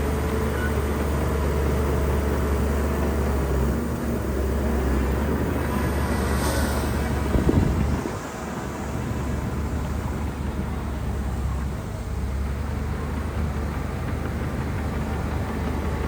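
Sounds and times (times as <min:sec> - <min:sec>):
bulldozer diesel engine drone: 0:00.0 - 0:16.0.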